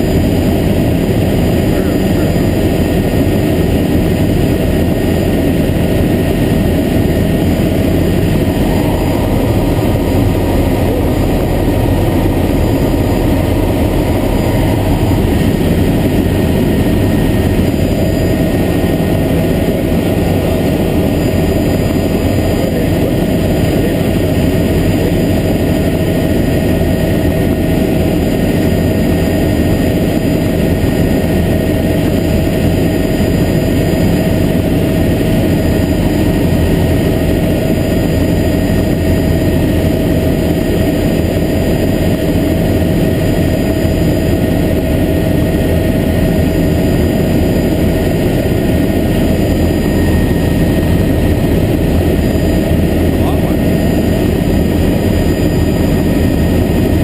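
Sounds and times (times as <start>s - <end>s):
helicopter engine and rotor noise: 0.0s - 57.0s.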